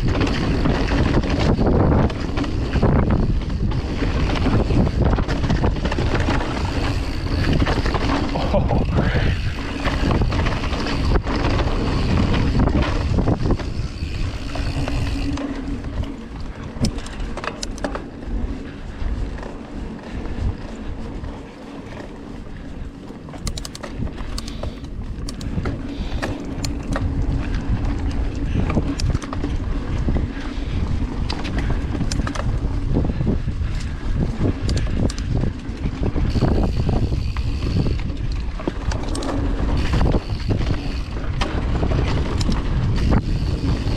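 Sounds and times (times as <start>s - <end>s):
bike clicks and rattles: 0.0s - 43.9s
wind rush on microphone: 0.0s - 43.9s.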